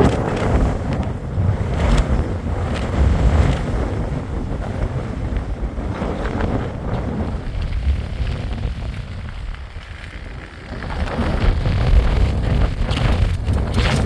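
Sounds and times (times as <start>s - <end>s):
gusting wind on microphone: 0.0s - 14.0s.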